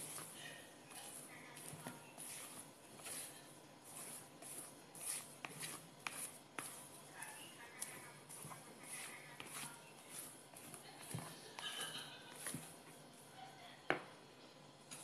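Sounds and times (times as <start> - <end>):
spatula folding batter swishes: 0.0 - 13.4.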